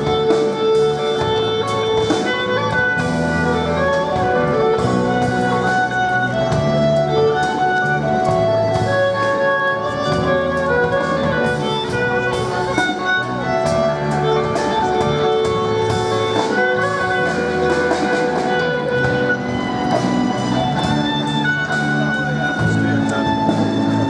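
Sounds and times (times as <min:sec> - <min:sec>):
drums: 0:00.0 - 0:24.0
electric guitar held notes: 0:00.0 - 0:24.0.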